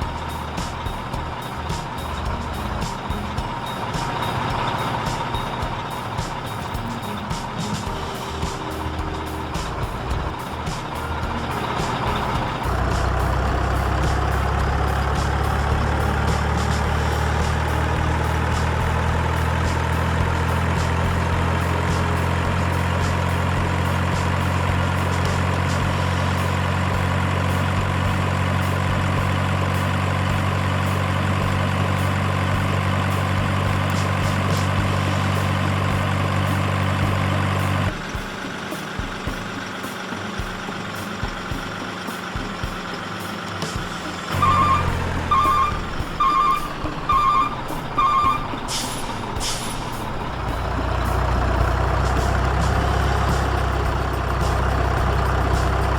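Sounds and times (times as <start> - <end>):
engine-like hum with whine: 0.0 - 55.9.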